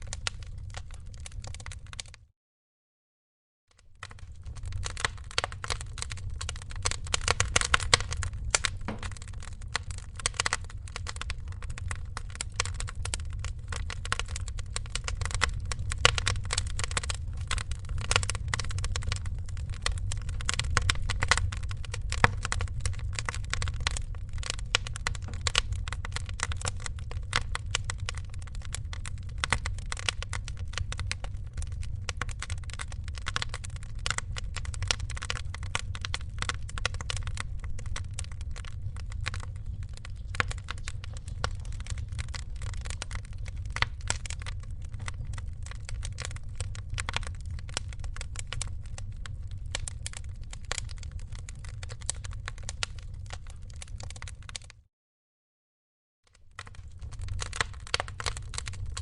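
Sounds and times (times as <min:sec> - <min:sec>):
wood fire crackling and popping: 0:00.0 - 0:02.3, 0:03.8 - 0:54.8, 0:56.3 - 0:59.0.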